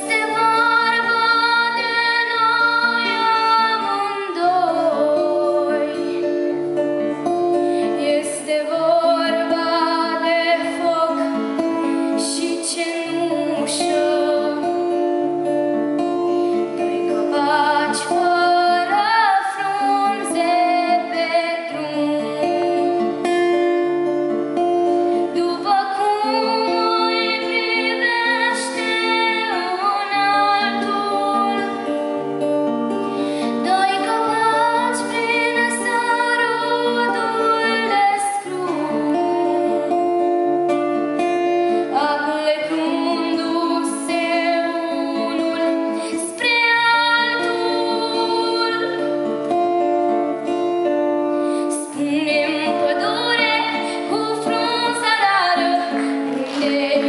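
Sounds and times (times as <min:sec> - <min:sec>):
acoustic guitar: 0:00.0 - 0:57.0
girl singing folk song: 0:00.0 - 0:57.0.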